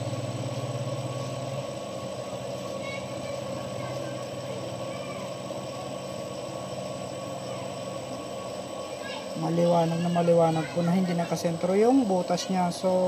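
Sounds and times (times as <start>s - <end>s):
metal lathe motor humming: 0.0s - 13.0s.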